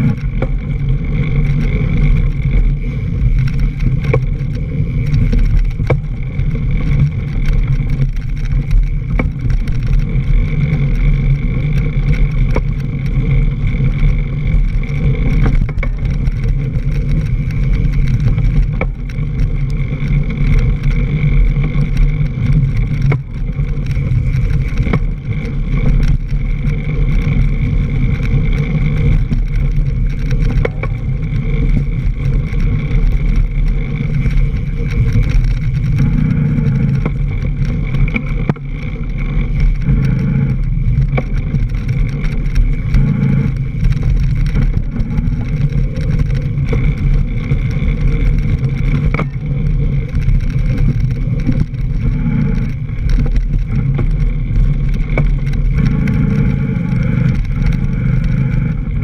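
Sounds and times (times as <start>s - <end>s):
bike rattles and knocks: 0.0s - 59.0s
wind and trail vibration rumble: 0.0s - 59.0s.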